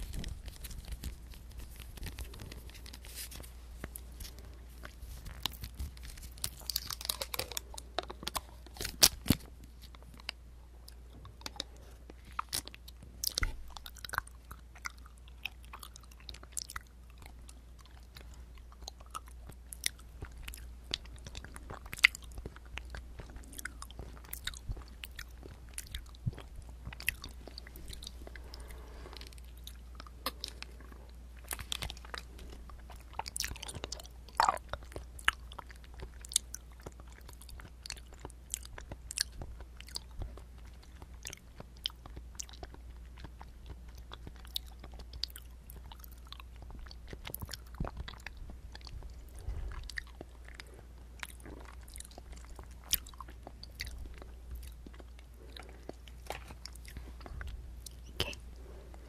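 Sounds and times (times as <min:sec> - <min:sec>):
chewing and biting: 0:00.0 - 0:59.0
faint low hum: 0:00.0 - 0:59.0.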